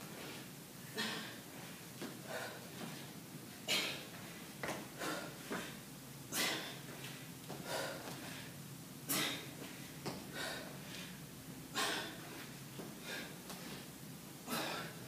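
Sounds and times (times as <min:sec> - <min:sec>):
woman breathing hard: 0:00.9 - 0:15.0.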